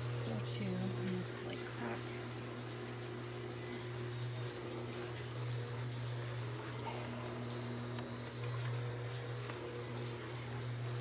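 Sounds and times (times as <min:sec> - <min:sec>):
spin mop motor hum: 0:00.0 - 0:11.0.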